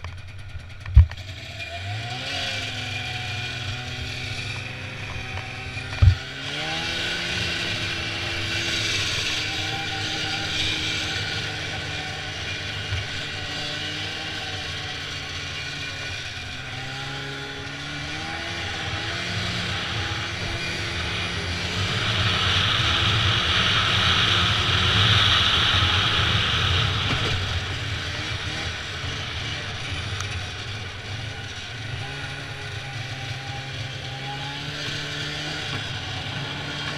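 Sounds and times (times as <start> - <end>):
snowmobile engine running: 0.0 - 36.9.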